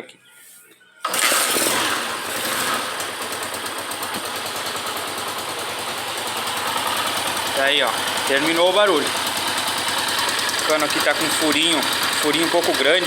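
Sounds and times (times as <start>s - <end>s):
motorcycle engine starting and idling: 1.0s - 13.0s.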